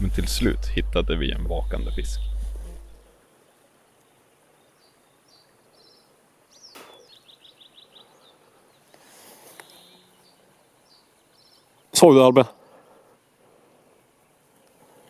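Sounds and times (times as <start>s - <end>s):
faint birdsong chirps: 0.0s - 15.0s.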